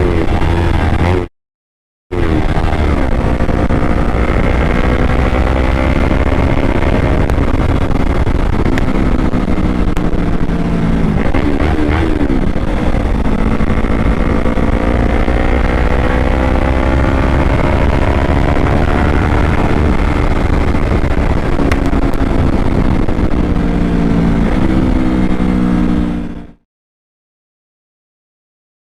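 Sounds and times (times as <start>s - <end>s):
motorcycle engine at high speed: 0.0s - 1.3s, 2.1s - 26.6s.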